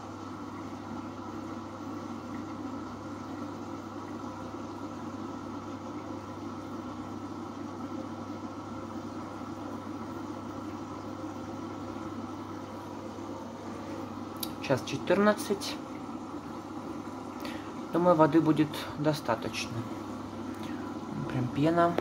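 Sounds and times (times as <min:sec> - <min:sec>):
water rushing into washing machine: 0:00.0 - 0:22.0.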